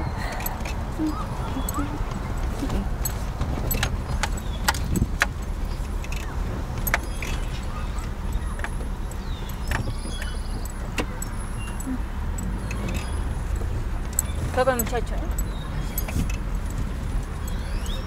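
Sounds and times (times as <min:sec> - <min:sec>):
engine and road noise rumble: 0:00.0 - 0:18.0
sharp clicks and rattles: 0:00.0 - 0:18.0.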